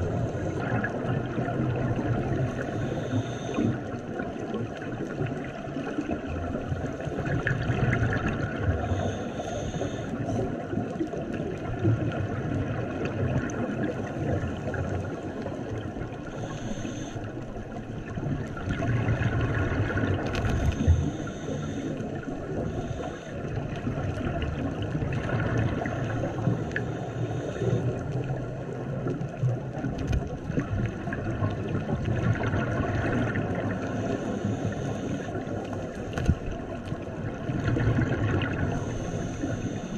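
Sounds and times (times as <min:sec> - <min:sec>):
exhale bubbling rumble: 0:00.0 - 0:39.9
underwater water noise: 0:00.0 - 0:39.9.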